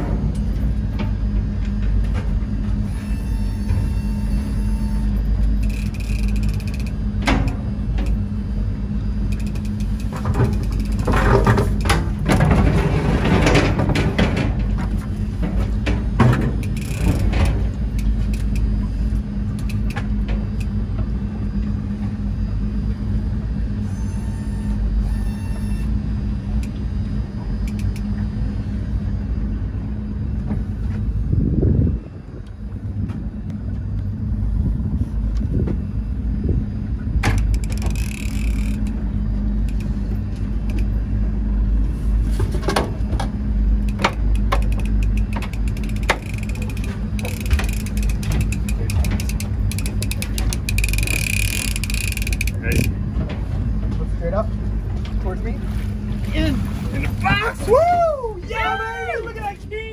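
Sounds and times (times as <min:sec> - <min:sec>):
boat engine droning: 0:00.0 - 0:59.9.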